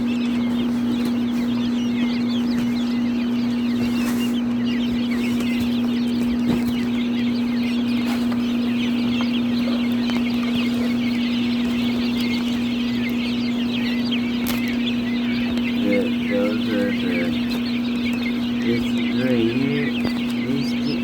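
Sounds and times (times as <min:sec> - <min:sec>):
chicks peeping: 0:00.0 - 0:21.0
low electrical hum: 0:00.0 - 0:21.0.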